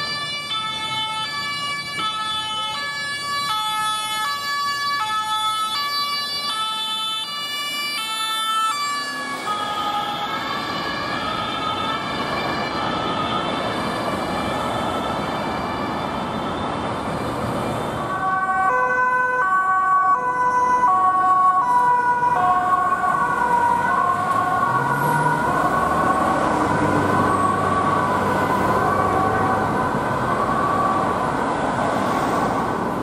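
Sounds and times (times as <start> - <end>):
ambulance two-tone siren: 0.0 - 33.0
road traffic passing: 0.0 - 33.0.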